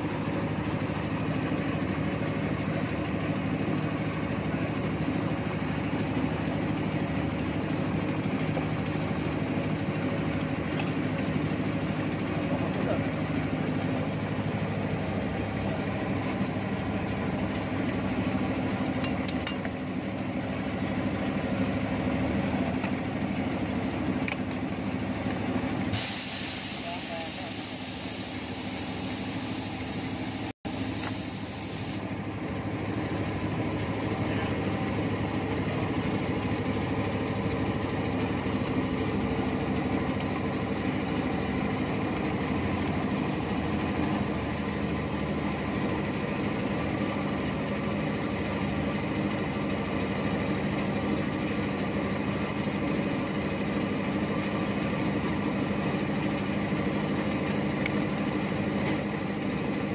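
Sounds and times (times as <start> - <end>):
heavy equipment engine idling: 0.0 - 59.9.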